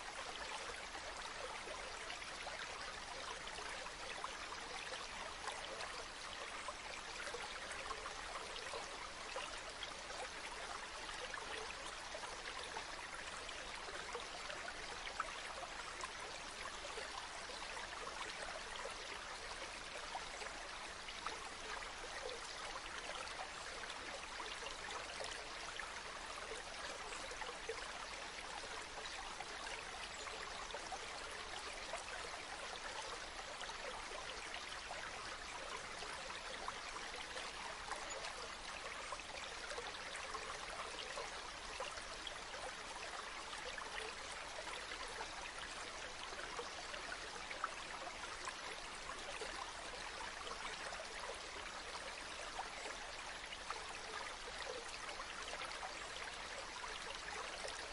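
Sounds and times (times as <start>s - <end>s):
stream flowing over stones: 0.0s - 57.9s.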